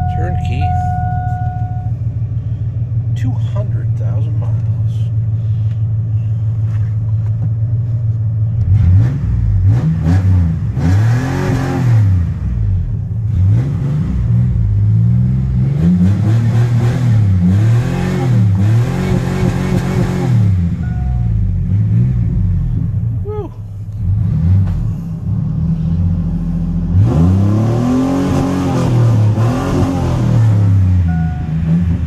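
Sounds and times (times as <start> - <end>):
truck engine idling and revving: 0.0 - 32.0.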